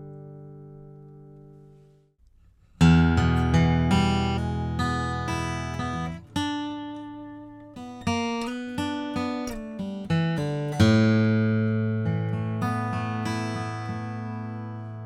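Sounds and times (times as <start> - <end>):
acoustic guitar picked notes: 0.0 - 2.0, 2.8 - 15.0
acoustic guitar chord ringing: 2.8 - 15.0.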